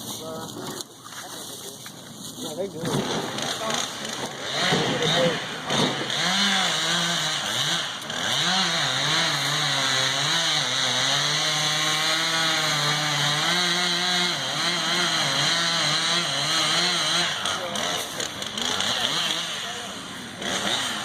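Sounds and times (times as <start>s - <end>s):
chainsaw cutting wood: 2.8s - 21.0s.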